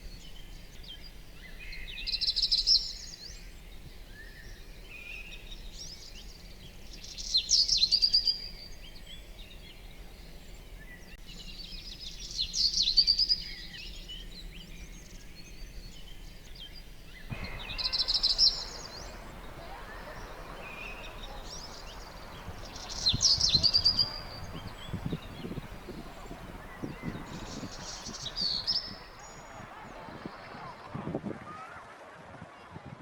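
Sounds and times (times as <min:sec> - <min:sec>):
outdoor background hiss: 0:00.0 - 0:31.3
songbird chirping: 0:04.2 - 0:31.1.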